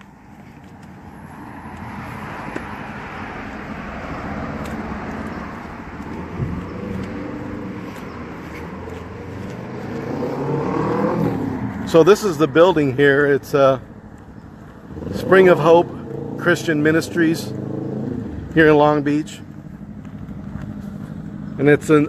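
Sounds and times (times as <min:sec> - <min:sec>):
passing cars rushing: 0:00.0 - 0:22.0.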